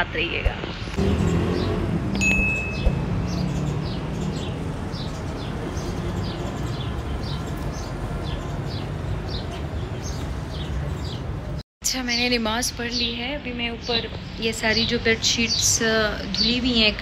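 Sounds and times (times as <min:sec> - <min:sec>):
small birds chirping: 0:00.9 - 0:01.9, 0:02.6 - 0:17.0.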